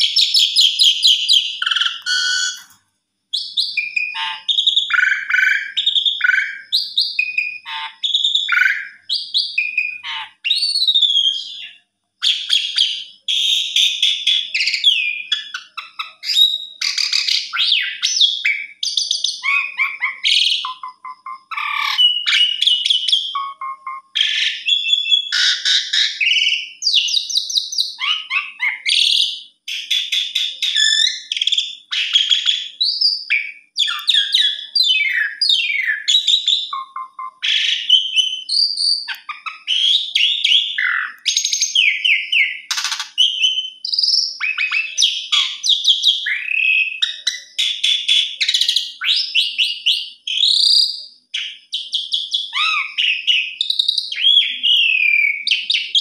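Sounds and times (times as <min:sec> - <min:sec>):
starling singing whistles: 0:00.0 - 0:56.0.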